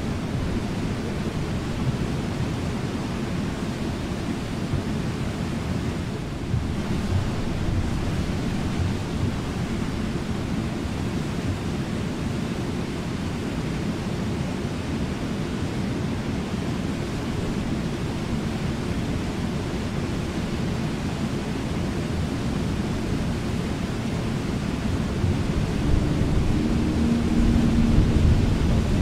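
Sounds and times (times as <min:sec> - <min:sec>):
river rapids rushing: 0:00.0 - 0:29.0.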